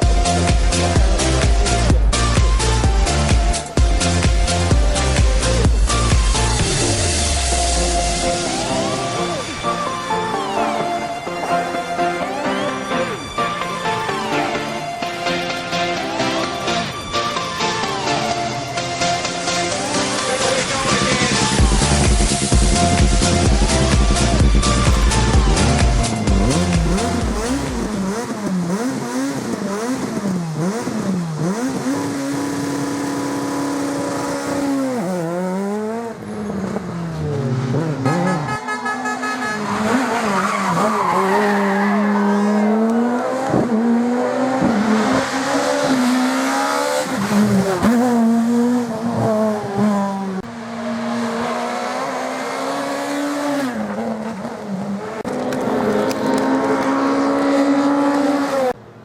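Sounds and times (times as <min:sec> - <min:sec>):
tyre noise: 0:00.0 - 0:58.8
rally car engines revving: 0:00.0 - 0:59.0.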